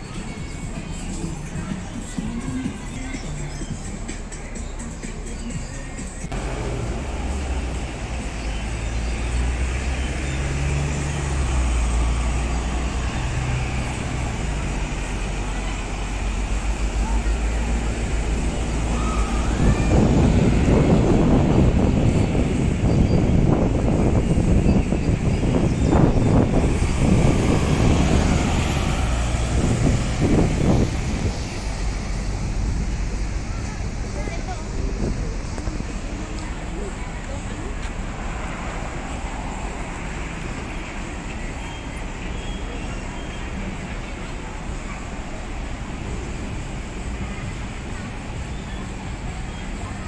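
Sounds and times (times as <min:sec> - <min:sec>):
bus engine running: 0:00.0 - 0:50.0
street traffic noise: 0:00.0 - 0:50.0.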